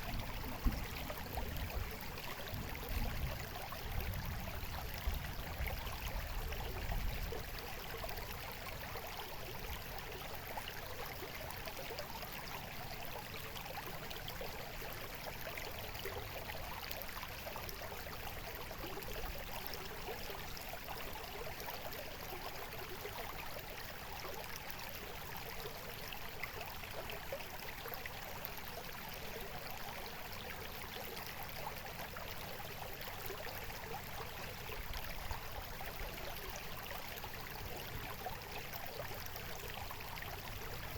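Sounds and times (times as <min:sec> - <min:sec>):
stream trickling and babbling: 0:00.0 - 0:40.9.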